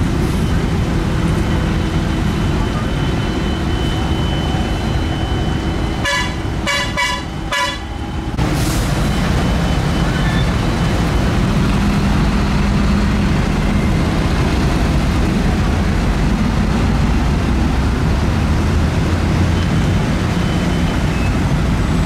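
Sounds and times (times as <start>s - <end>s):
diesel truck engines in traffic: 0.0s - 22.0s.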